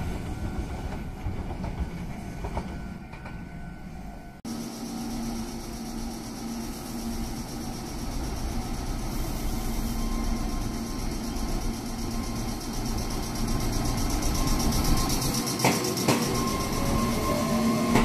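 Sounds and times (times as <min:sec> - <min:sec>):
electric train whine: 0:00.0 - 0:18.0.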